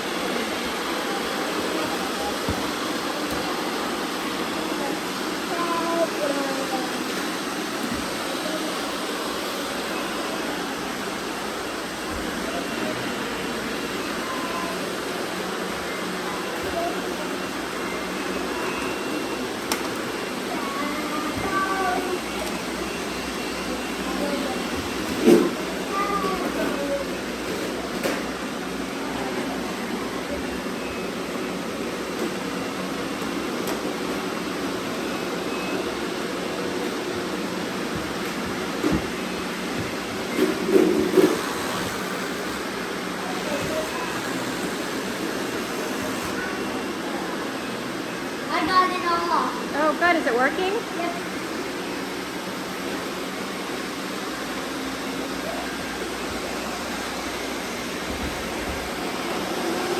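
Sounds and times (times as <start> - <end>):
robot vacuums whirring: 0.1 - 47.6, 50.4 - 59.9.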